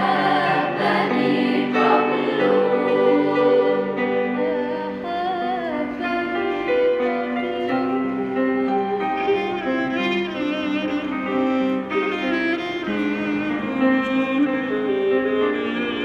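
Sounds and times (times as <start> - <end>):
electronic keyboard playing hymn melody: 0.0 - 16.0.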